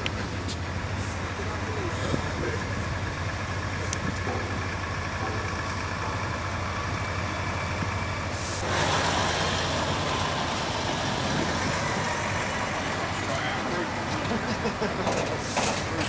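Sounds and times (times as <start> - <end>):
lorry diesel engine running: 0.0 - 16.0.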